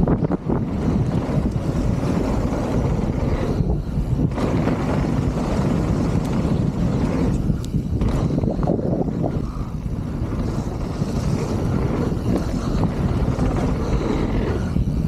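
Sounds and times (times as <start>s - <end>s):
bike rattling: 0.0s - 15.0s
bike tyres rolling on dirt: 0.0s - 15.0s
wind on camera microphone: 0.0s - 15.0s.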